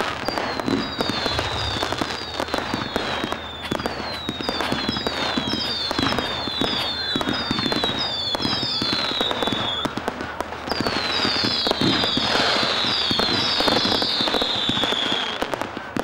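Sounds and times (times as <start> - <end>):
fireworks crackling and popping: 0.0 - 16.0
whistling fireworks: 0.0 - 16.0.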